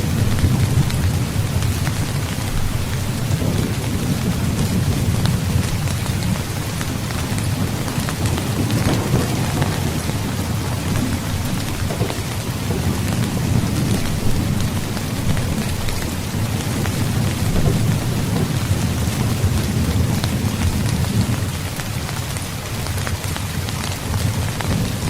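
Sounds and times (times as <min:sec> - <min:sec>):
low rumble of thunder: 0:00.0 - 0:22.4, 0:23.1 - 0:25.0
heavy rain: 0:00.0 - 0:25.0
raindrops ticking: 0:00.0 - 0:25.0.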